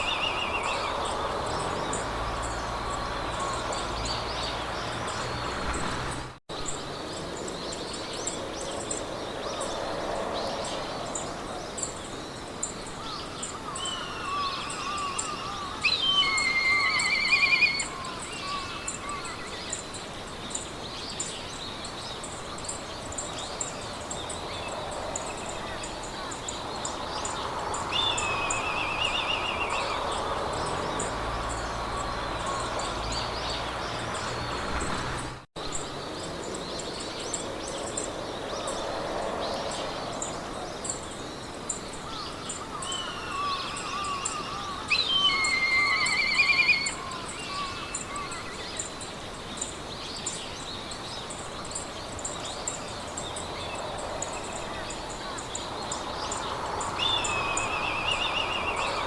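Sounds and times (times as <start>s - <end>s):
birds singing: 0.0s - 59.0s
insects chirping: 0.0s - 59.0s.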